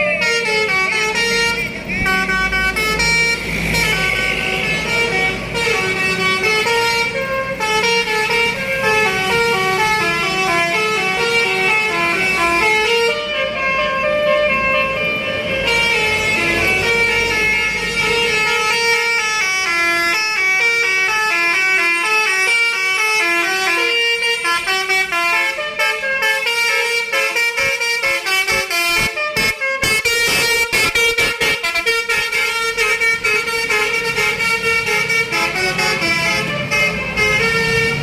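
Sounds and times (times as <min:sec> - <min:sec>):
musical air horn melody: 0:00.0 - 0:38.0.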